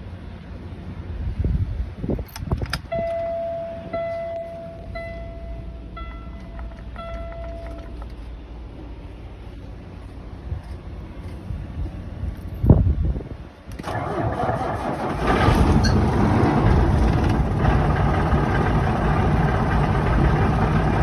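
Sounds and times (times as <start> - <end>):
low hum: 2.9 - 21.0.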